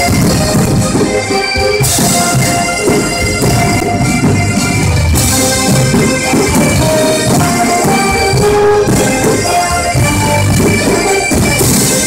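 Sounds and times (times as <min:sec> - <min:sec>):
melody over band accompaniment: 0:00.0 - 0:12.0.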